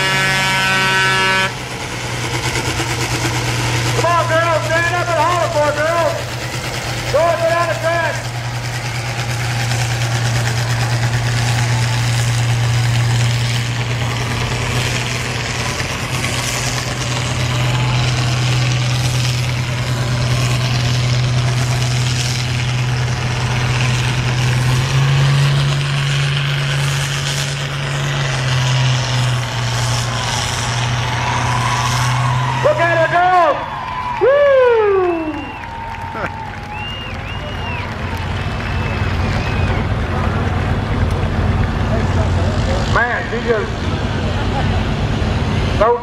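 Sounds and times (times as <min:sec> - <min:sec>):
tractor engine under load: 0:00.0 - 0:46.0.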